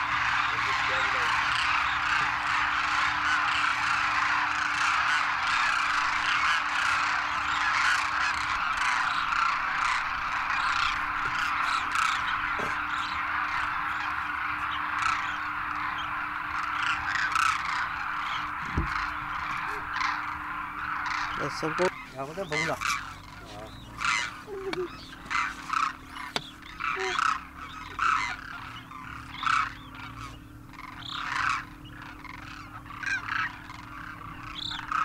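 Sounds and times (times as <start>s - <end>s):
flock of cranes calling: 0.0s - 35.0s.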